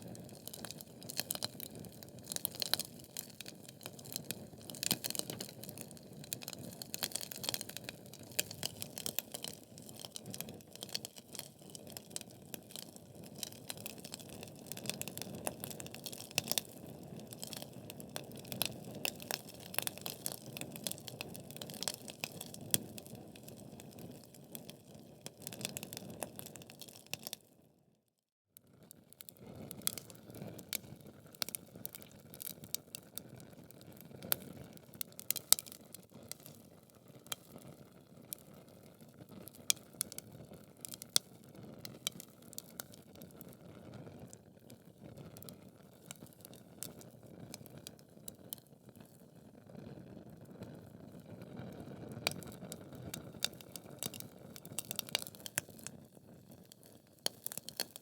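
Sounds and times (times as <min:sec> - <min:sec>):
logs crackling and popping: 0:00.0 - 0:27.4, 0:29.3 - 0:43.6, 0:45.3 - 0:48.7, 0:52.2 - 0:58.0.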